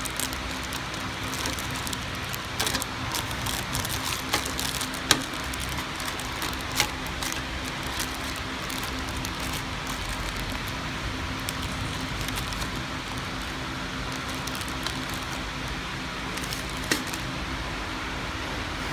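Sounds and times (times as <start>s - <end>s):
plastic wrappers crinkling: 0.0s - 17.5s
packing machine humming: 0.0s - 18.8s.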